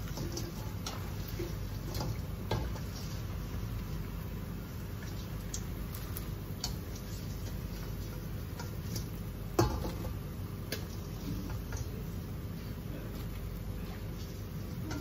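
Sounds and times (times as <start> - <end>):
frying oil crackling and popping: 0.0 - 15.0.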